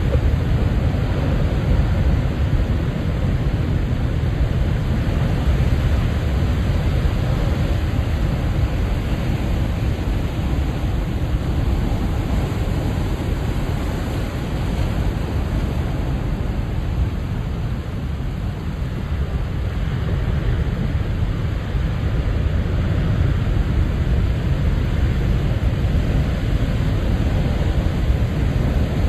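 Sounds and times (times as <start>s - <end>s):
ocean waves rushing: 0.0s - 29.0s.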